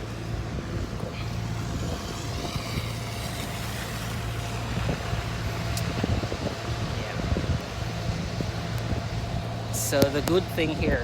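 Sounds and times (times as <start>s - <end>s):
street noise rush: 0.0s - 11.0s
vehicle engine humming: 0.0s - 11.0s.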